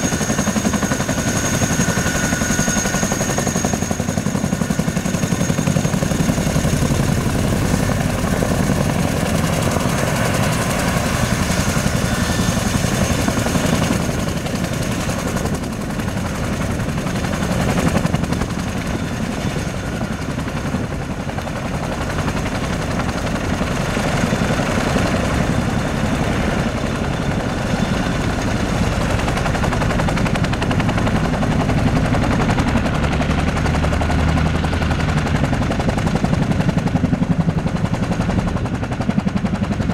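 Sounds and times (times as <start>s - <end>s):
high turbine whine: 0.0s - 35.3s
helicopter rotor blade chop: 0.0s - 39.9s
turboshaft engines: 0.0s - 39.9s.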